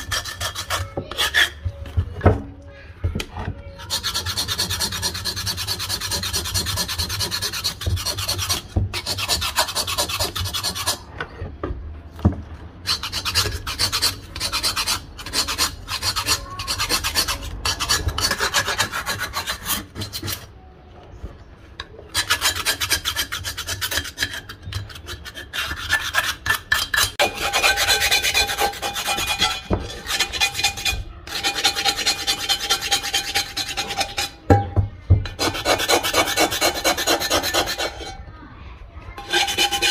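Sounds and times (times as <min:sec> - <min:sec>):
knife scraping cast iron: 0:00.0 - 0:01.7, 0:03.7 - 0:11.4, 0:12.8 - 0:20.5, 0:21.8 - 0:38.3, 0:39.2 - 0:39.9.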